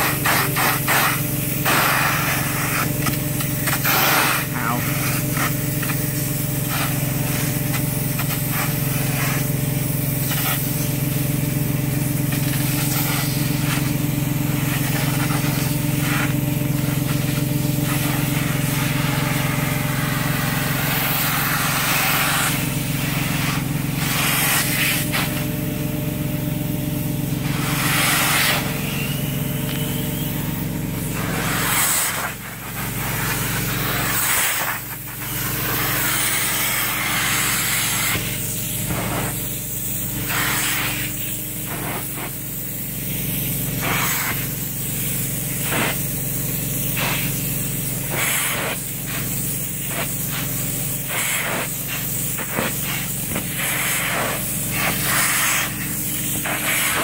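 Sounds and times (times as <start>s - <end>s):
upholstery tool spraying and extracting: 0.0s - 25.5s, 27.2s - 57.0s
vacuum running through hose: 0.0s - 57.0s.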